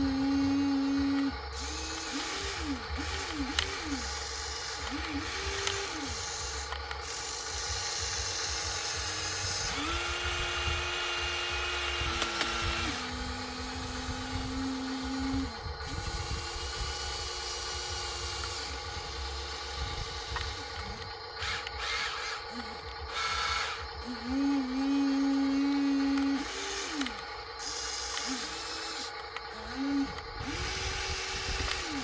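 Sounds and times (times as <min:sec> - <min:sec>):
small electric motors whining: 0:00.0 - 0:32.0.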